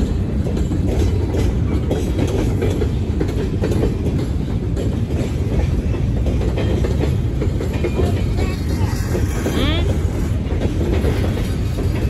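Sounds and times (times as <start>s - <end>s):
freight train rumbling past: 0.0s - 12.0s
wheels clickety-clack: 0.0s - 12.0s.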